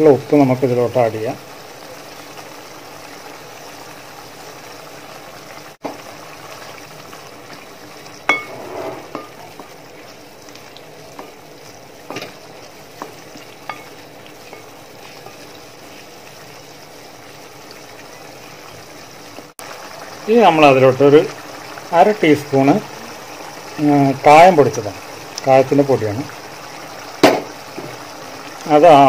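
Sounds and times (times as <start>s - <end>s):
simmering sizzle: 0.0s - 29.0s.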